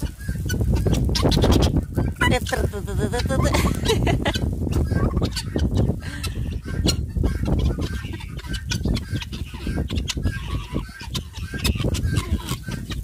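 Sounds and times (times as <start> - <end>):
chickens clucking: 0.0 - 13.0
wind buffeting microphone: 0.0 - 13.0.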